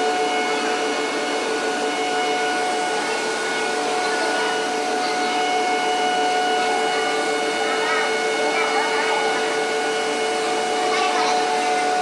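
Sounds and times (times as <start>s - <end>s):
machine motor whine: 0.0s - 12.0s.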